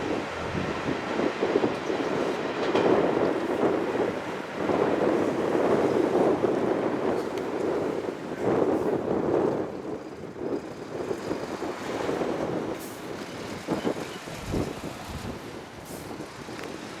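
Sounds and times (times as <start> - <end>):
diesel railcar running: 0.0 - 17.0.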